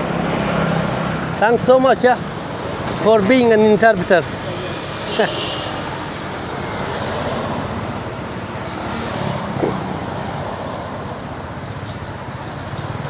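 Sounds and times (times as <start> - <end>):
passing cars and motorbikes: 0.0 - 13.0.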